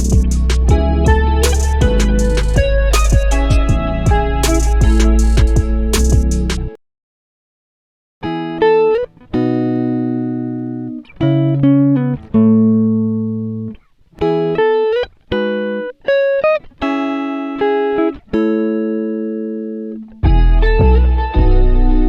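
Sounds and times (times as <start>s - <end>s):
plucked guitar melody: 0.0s - 6.8s, 8.2s - 22.0s.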